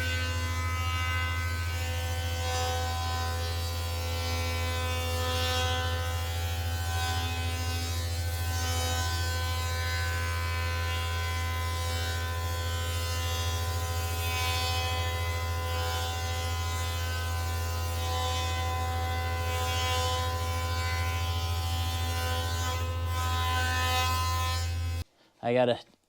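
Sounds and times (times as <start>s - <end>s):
woodworking machine motor humming: 0.0s - 25.0s.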